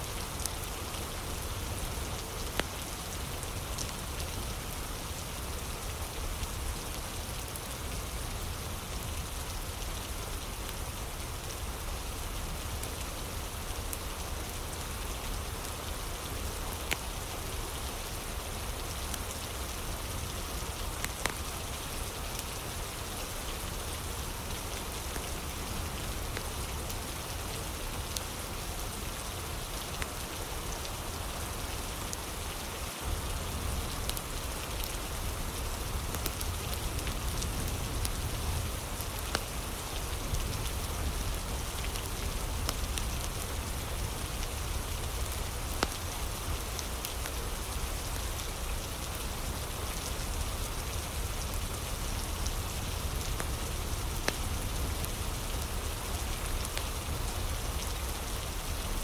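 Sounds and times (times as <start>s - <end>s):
fire crackles: 0.0s - 59.0s
steady rain: 0.0s - 59.0s.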